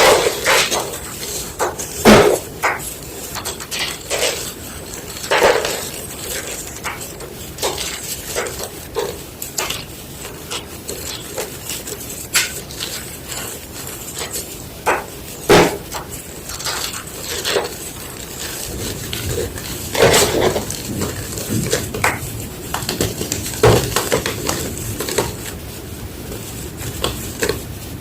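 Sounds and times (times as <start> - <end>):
chalk crunching and crumbling: 0.0 - 28.0.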